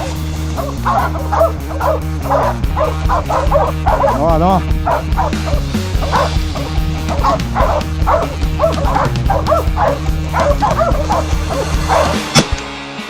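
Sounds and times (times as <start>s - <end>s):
dogs barking and yelping: 0.0s - 12.5s
background music: 0.0s - 13.0s.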